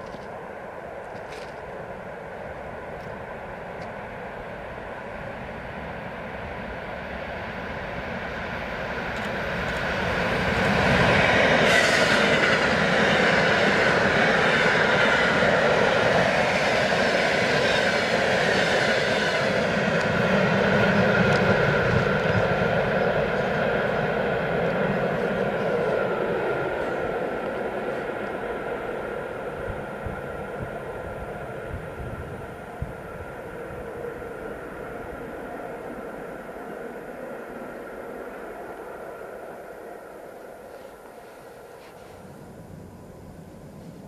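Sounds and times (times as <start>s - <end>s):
electric train rolling past: 0.0s - 44.0s.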